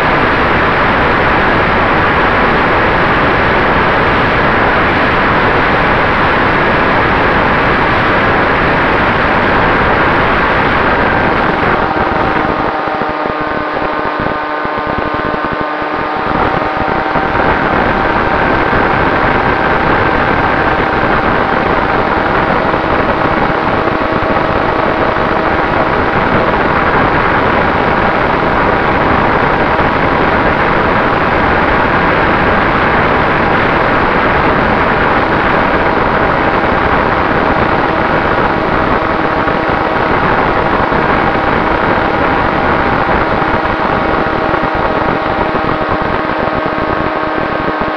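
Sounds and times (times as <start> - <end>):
motor and propeller whine: 0.0 - 47.9
wind rushing over microphone: 0.0 - 47.9.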